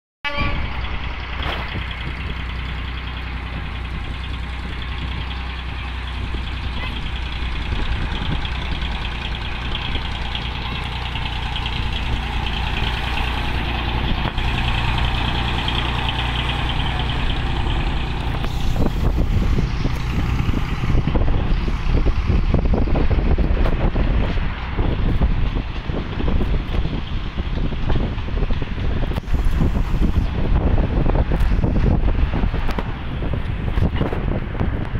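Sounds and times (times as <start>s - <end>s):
miniature train engine drone: 0.3s - 34.9s
wheels clattering over rails: 0.4s - 34.9s.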